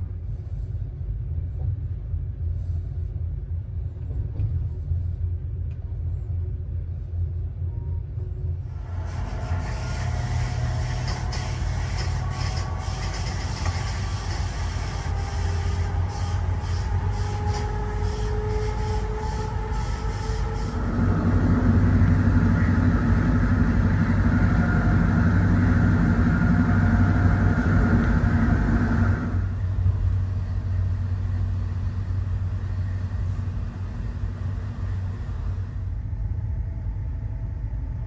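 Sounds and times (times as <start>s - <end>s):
faint whine: 0.0s - 38.0s
train wheels rumbling on rails: 0.0s - 38.0s.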